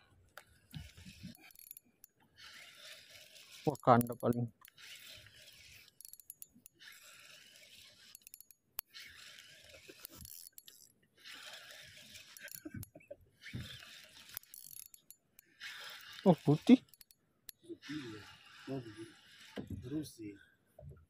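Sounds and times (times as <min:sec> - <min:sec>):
fishing reel gears whirring: 0:00.4 - 0:19.8.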